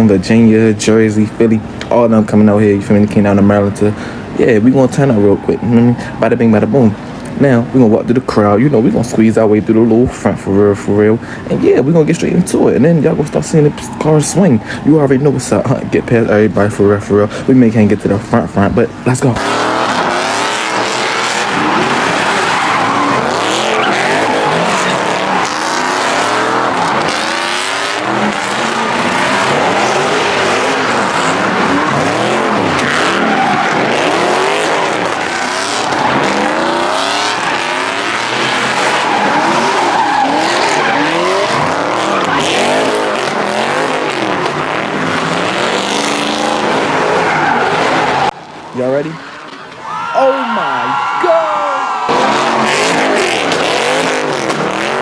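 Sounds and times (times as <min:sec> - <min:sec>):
tyres squealing on pavement: 0:00.0 - 0:09.8, 0:18.9 - 0:55.0
car engines revving: 0:00.0 - 0:50.0, 0:51.8 - 0:55.0.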